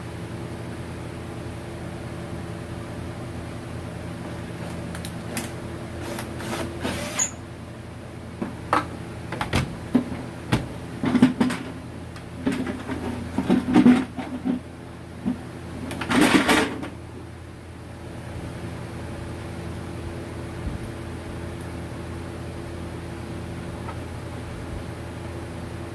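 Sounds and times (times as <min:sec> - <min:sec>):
steady background hum: 0:00.0 - 0:25.9.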